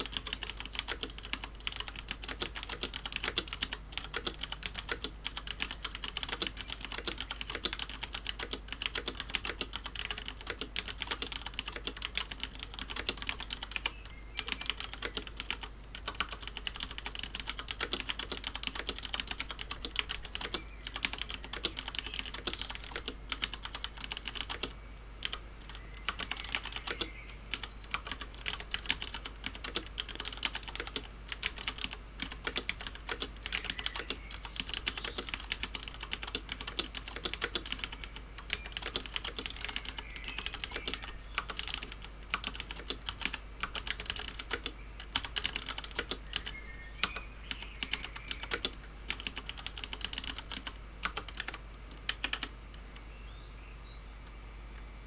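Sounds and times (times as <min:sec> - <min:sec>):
typing on mechanical keyboard: 0:00.0 - 0:52.5.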